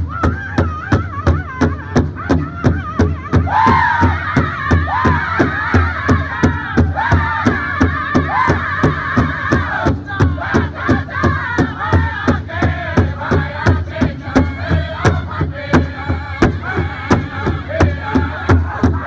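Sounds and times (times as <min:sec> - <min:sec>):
bass drum fast even beat: 0:00.0 - 0:19.0
high-pitched group singing: 0:02.6 - 0:19.0
women singing: 0:03.5 - 0:19.0.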